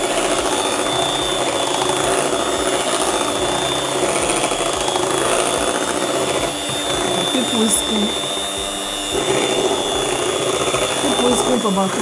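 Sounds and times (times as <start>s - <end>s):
electric mixer whisking batter: 0.0s - 12.0s.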